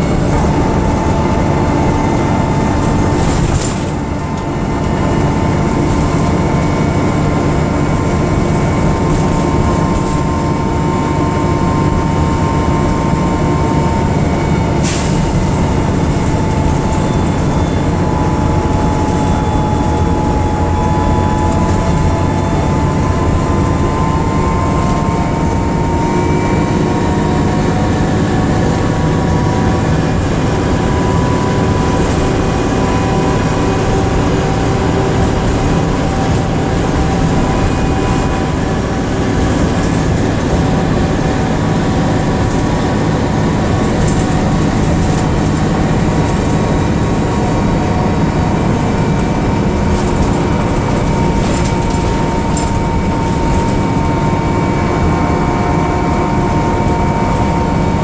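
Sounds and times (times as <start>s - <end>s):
bus engine and road rumble: 0.0s - 58.0s
engine whine: 0.0s - 58.0s.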